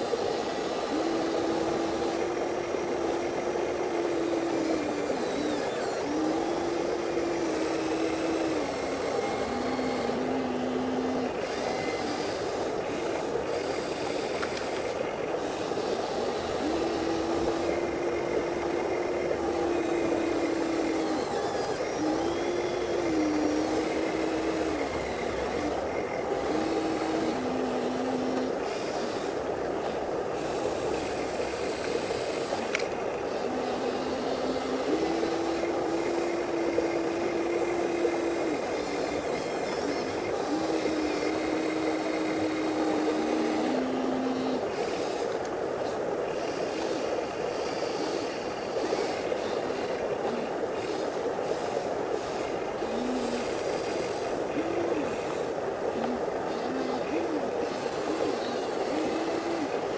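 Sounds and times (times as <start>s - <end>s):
small electric motors whining: 0.0s - 59.9s.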